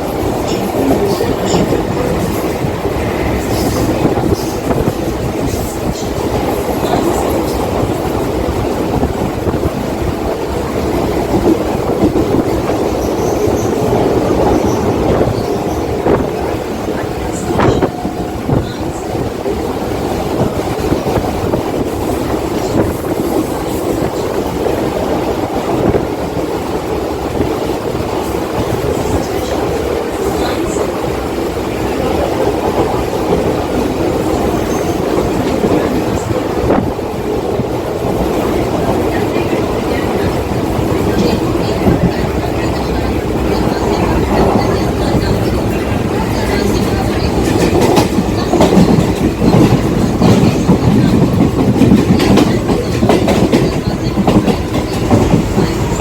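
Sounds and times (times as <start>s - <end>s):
train rumbling along track: 0.0s - 56.0s
wheels clacking over rails: 0.0s - 56.0s.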